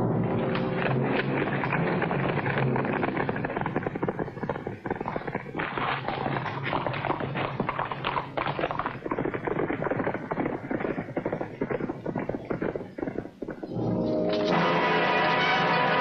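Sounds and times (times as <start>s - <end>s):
horse hoofbeats on hard ground: 0.0s - 16.0s.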